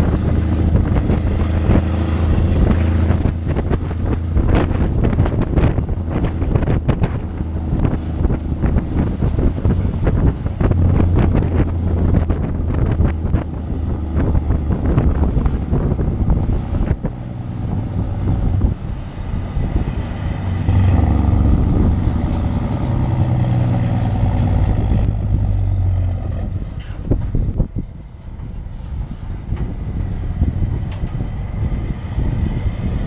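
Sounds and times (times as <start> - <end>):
truck engine pulling hard: 0.0 - 33.0
wind buffeting microphone: 0.0 - 33.0.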